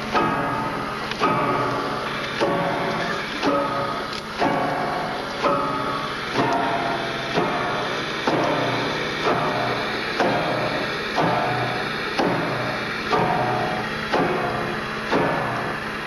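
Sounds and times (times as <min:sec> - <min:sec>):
piano chords struck: 0:00.0 - 0:16.0.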